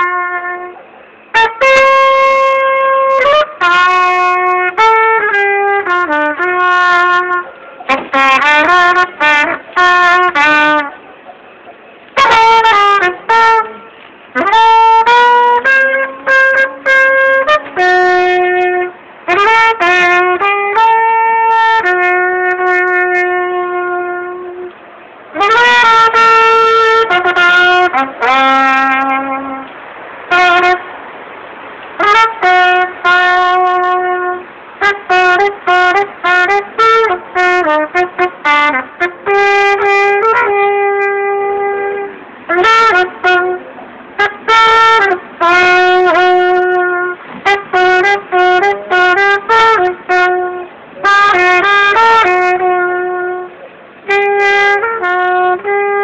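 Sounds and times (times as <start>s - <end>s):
solo trumpet melody: 0.0s - 31.2s, 31.8s - 56.0s.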